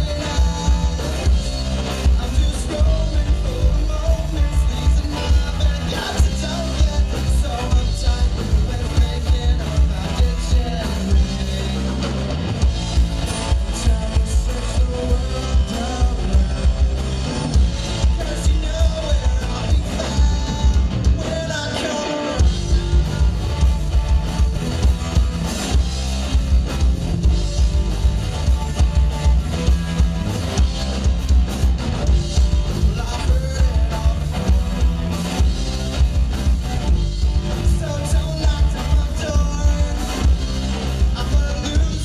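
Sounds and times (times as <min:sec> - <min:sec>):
drum kit beat: 0:00.0 - 0:42.0
electric guitar: 0:00.0 - 0:42.0.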